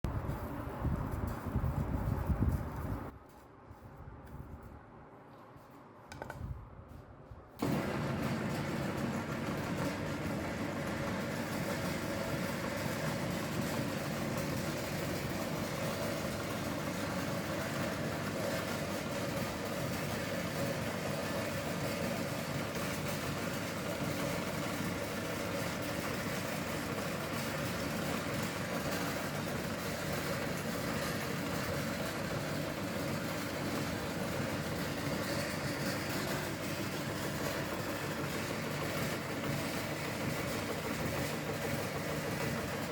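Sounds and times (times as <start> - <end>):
meat grinder motor humming: 7.6 - 42.9.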